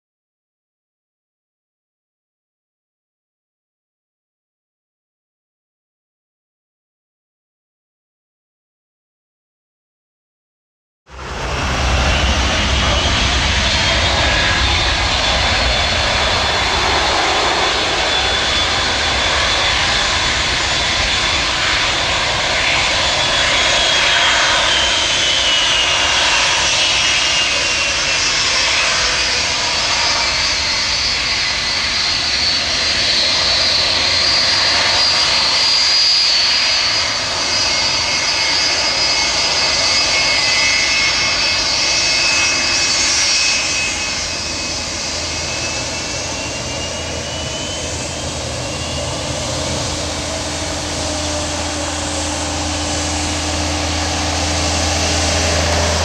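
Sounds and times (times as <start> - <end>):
jet engine roar with whine: 11.1 - 56.0.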